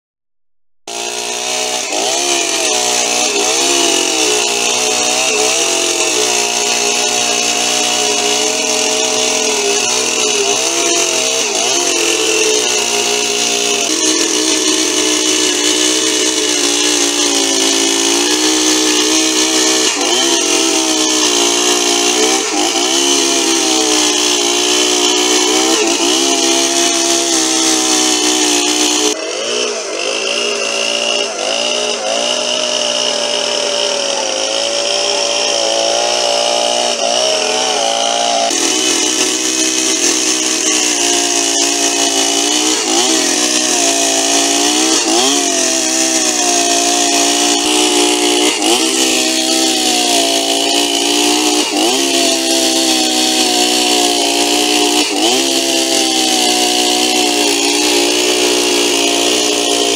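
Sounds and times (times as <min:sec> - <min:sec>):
chainsaw cutting log: 0:00.9 - 0:59.9.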